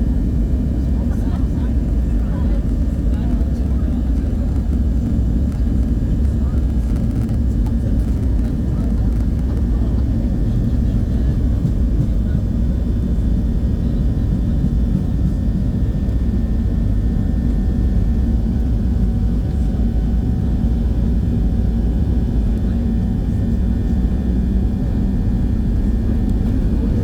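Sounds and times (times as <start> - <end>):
airliner engines rumbling in cabin: 0.0 - 27.0.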